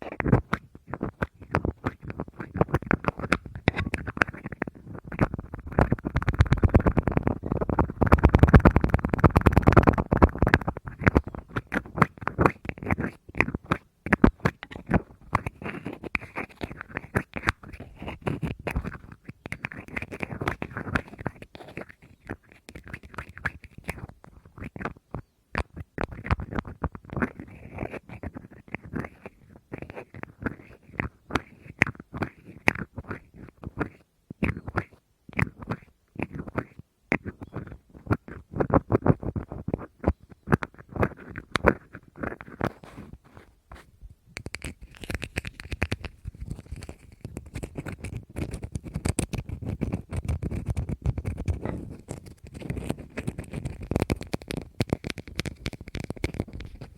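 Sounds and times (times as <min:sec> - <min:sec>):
fast tapping on hard object: 0:00.1 - 0:42.8, 0:44.4 - 0:56.9.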